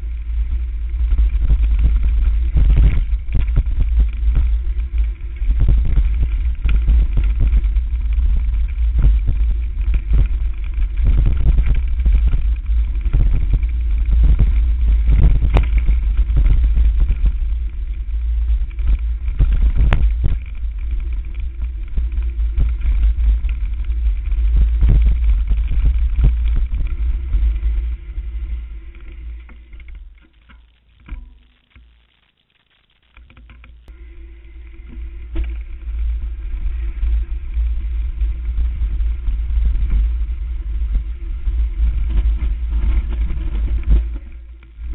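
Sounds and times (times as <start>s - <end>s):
wind buffeting microphone: 0.0s - 30.2s, 33.9s - 44.9s
bike knocking and rattling: 0.0s - 31.9s, 33.1s - 44.9s.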